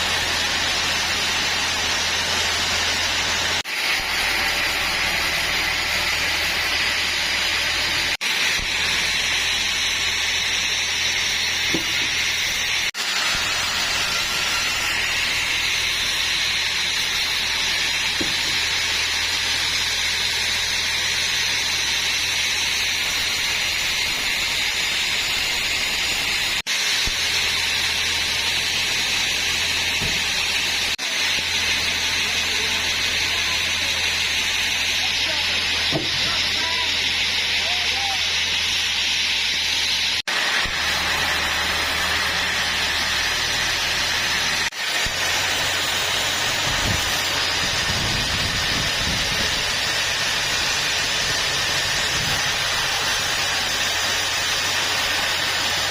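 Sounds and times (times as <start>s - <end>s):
sawmill saw running: 0.0s - 55.9s.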